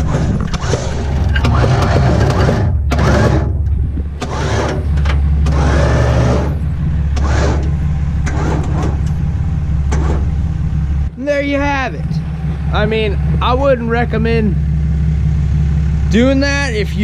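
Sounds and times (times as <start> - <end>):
bursts of louder noise: 0.0 - 17.0
pickup engine droning: 0.0 - 17.0.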